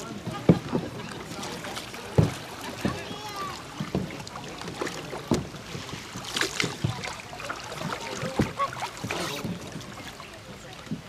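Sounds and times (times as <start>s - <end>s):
paddles dipping and splashing: 0.0s - 11.0s
paddles knocking against hulls: 0.0s - 11.0s.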